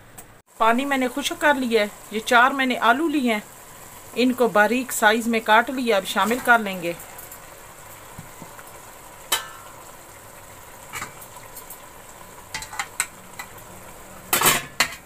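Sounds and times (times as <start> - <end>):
vegetables sizzling in a pot: 0.5 - 15.0.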